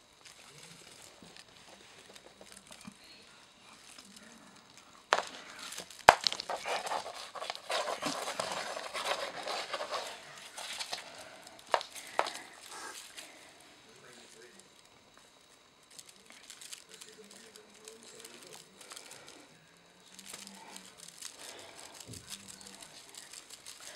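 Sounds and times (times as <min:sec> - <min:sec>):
crinkly toy rustling: 0:00.0 - 0:23.9.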